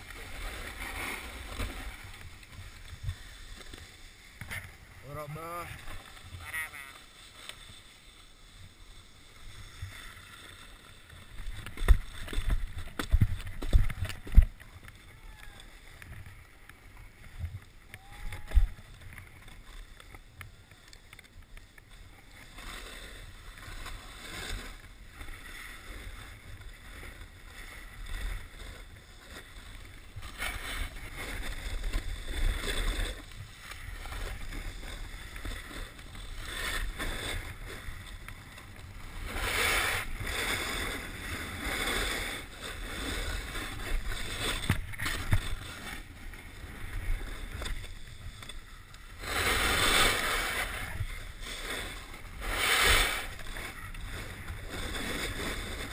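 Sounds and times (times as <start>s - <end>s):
snowboard scraping on snow: 0.0s - 55.9s.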